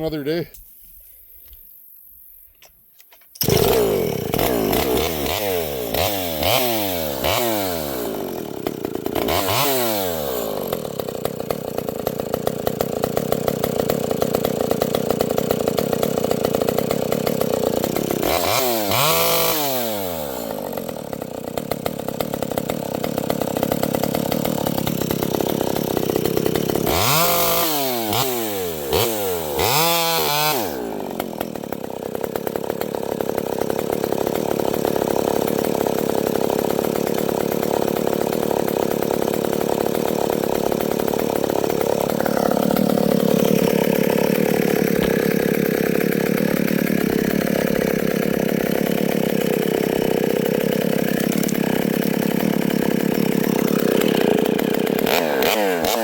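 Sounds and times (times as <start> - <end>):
two-stroke chainsaw revving: 3.4 - 56.0.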